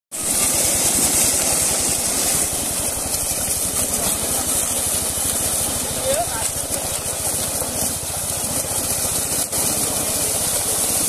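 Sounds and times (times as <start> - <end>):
fish splashing in shallow water: 0.1 - 11.0
engine idling: 0.2 - 11.0.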